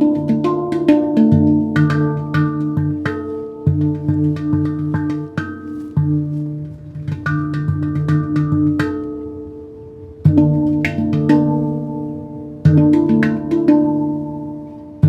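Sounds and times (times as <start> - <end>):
handpan melody: 0.0 - 15.0.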